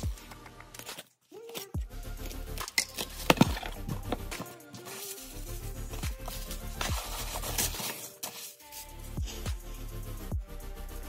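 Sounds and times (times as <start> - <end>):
slow beat background music: 0.0 - 11.0.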